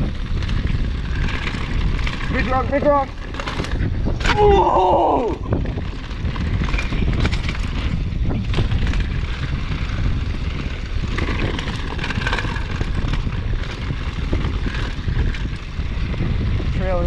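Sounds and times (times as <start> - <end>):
bike tyres clattering over rocks: 0.0 - 17.0
wind buffeting microphone: 0.0 - 17.0.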